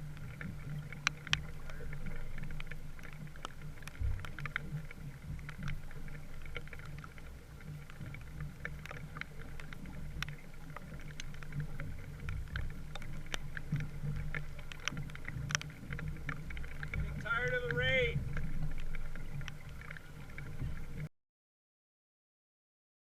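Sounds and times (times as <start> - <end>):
water and wind rushing: 0.0 - 21.1.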